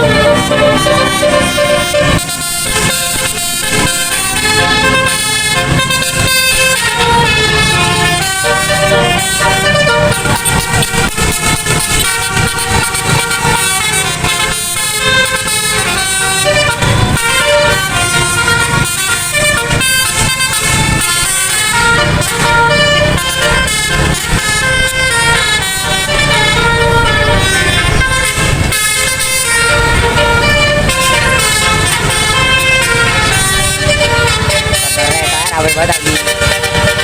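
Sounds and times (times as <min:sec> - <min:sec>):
bus engine: 0:00.0 - 0:37.0
multi-trumpet air horn tune: 0:00.0 - 0:37.0.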